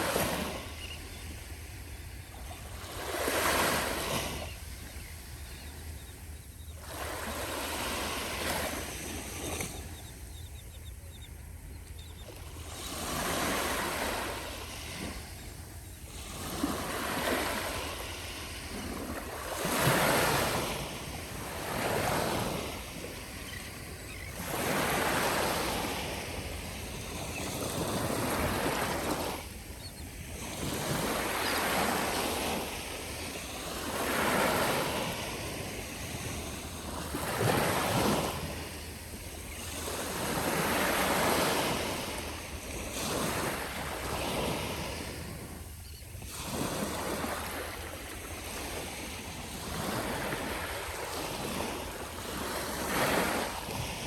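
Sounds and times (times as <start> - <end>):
gentle waves breaking on beach: 0.0 - 54.0.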